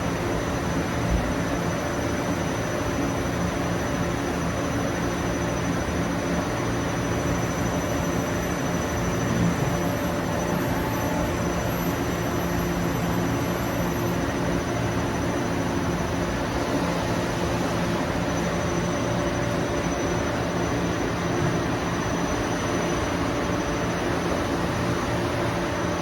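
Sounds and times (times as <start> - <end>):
faint high whine: 0.0 - 26.0
grinding machine running: 5.1 - 26.0.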